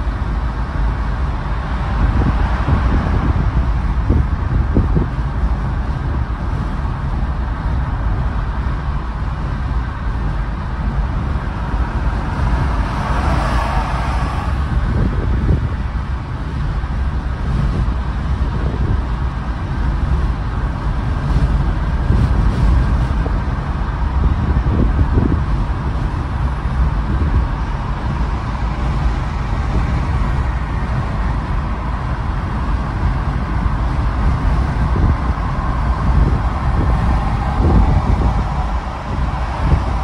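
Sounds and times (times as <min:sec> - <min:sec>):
car road and wind noise: 0:00.0 - 0:40.0.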